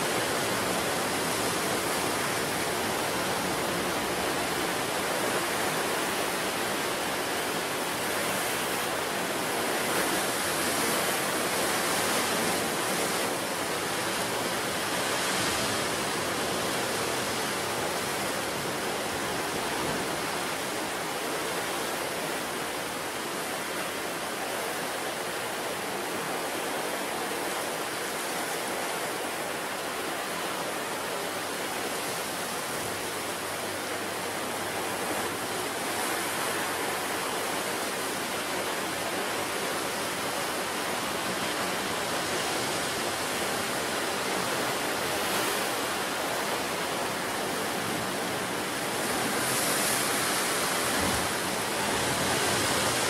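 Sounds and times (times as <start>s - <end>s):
ocean surf on rocks: 0.0s - 53.0s.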